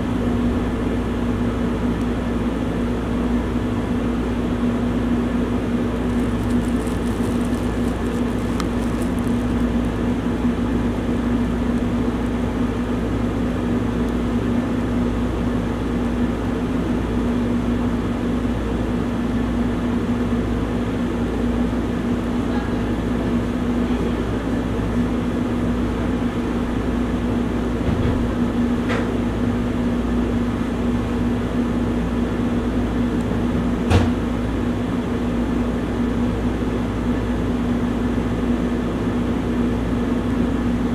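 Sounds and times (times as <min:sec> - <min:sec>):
machine hum with hiss: 0:00.0 - 0:40.9.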